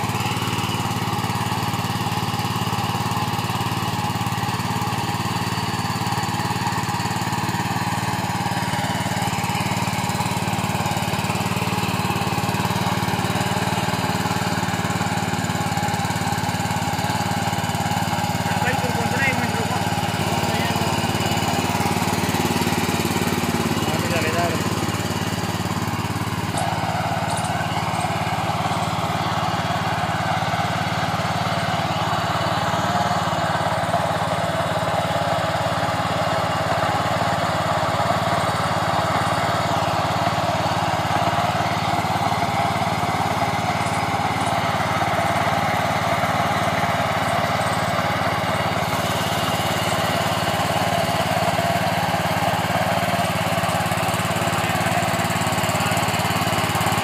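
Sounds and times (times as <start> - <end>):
power weeder engine drone: 0.0 - 57.0.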